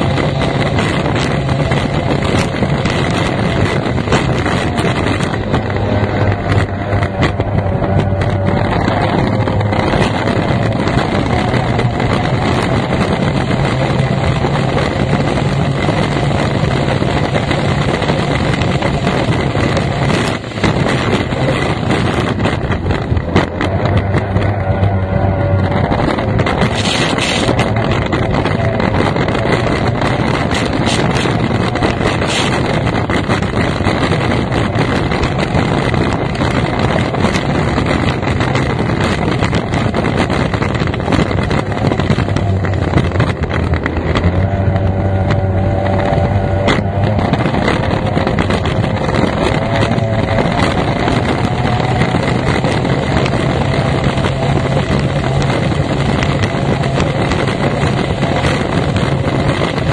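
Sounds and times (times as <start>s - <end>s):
powerboat outboard engine racing: 0.0s - 59.9s
rushing wind and water: 0.0s - 59.9s.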